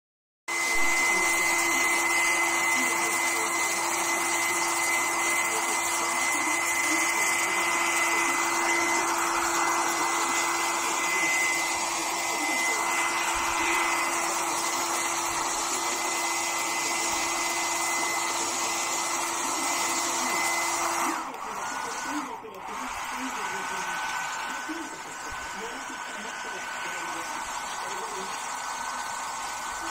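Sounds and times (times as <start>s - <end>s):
blow dryer running: 0.5s - 29.9s.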